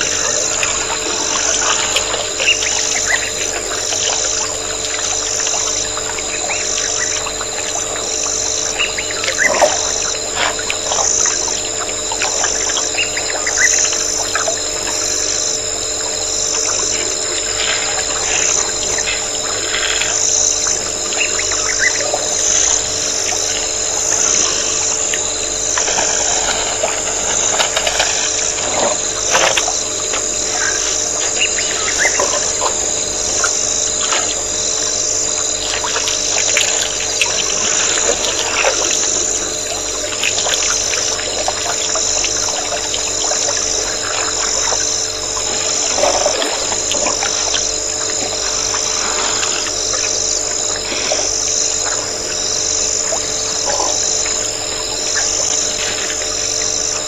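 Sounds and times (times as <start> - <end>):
constant hum: 0.0 - 57.0
insects calling in chorus: 0.0 - 57.0.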